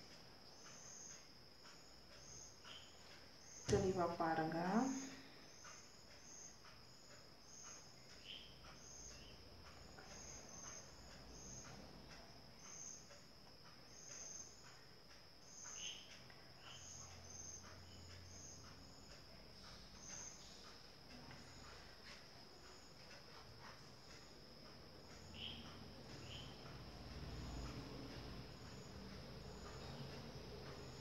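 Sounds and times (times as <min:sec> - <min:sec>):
cricket chirping: 0:00.0 - 0:31.0
crochet hook ticks: 0:00.0 - 0:31.0.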